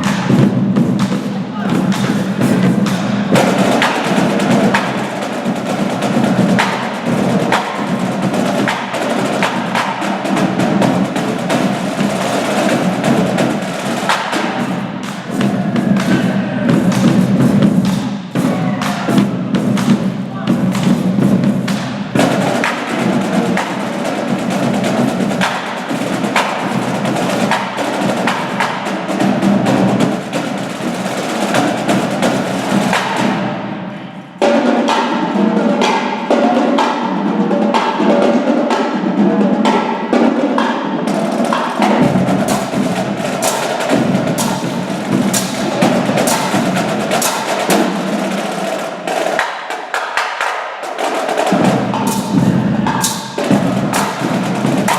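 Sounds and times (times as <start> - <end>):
marching drum line: 0.0 - 54.9.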